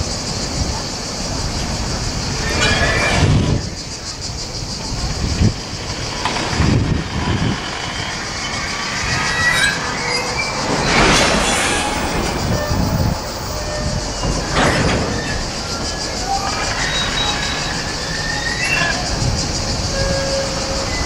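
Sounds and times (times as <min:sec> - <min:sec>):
freight train wheels rumbling: 0:00.0 - 0:21.0
rush of noise: 0:00.0 - 0:21.0
high wheel squeals: 0:01.4 - 0:21.0.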